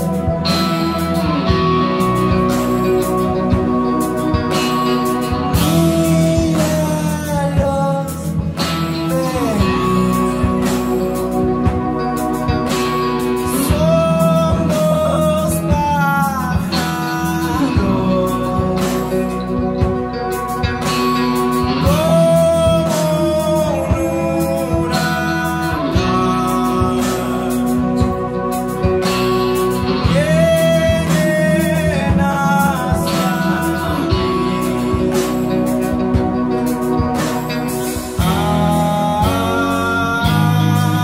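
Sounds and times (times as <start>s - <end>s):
electric guitar chords: 0.0s - 41.0s
live rock band playing: 0.0s - 41.0s
person singing: 0.0s - 41.0s.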